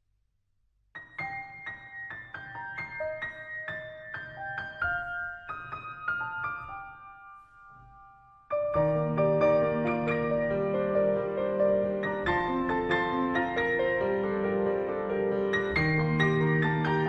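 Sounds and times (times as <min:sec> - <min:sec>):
soft piano music: 0:01.0 - 0:17.0.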